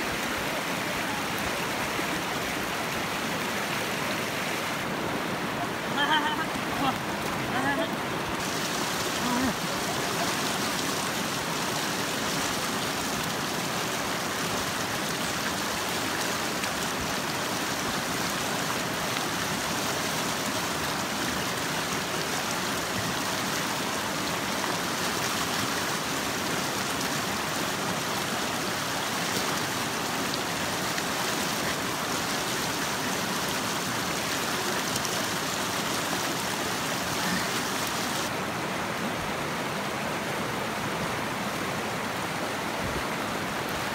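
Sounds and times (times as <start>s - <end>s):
river rushing over rocks: 0.0s - 43.9s.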